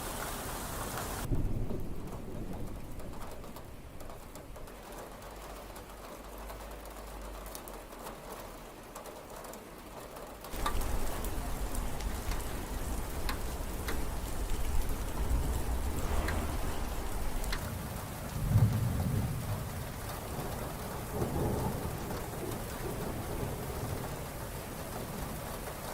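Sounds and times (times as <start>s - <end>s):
rain falling: 0.0s - 25.9s
raindrops ticking sharply: 1.2s - 25.9s.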